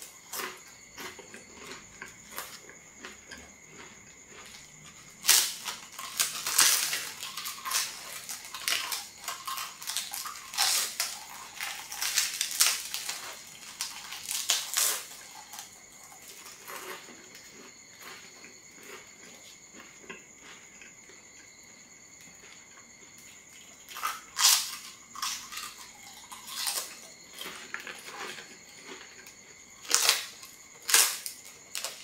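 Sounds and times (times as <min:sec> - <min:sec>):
flatbread crunching: 0:00.0 - 0:21.2, 0:22.3 - 0:32.0
soft chewing: 0:00.0 - 0:31.9.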